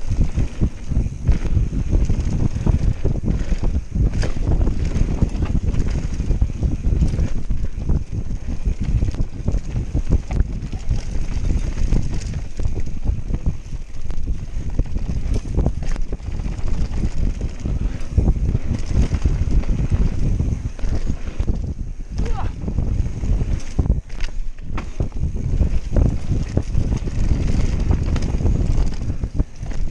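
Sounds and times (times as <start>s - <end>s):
bike knocks and rattles: 0.0s - 29.9s
tyres rumbling on dirt: 0.0s - 29.9s
wind buffeting microphone: 0.0s - 29.9s.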